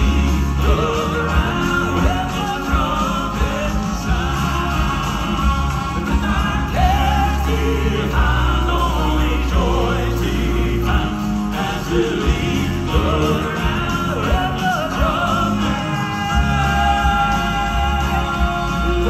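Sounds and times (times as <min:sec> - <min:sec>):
instrumental accompaniment: 0:00.0 - 0:19.0
male quartet singing in harmony: 0:00.0 - 0:19.0.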